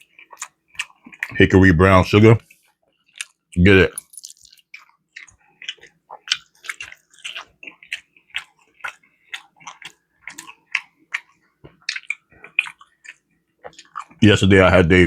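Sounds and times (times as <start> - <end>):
wet chewing mouth sounds: 0.0 - 1.6, 2.4 - 14.2.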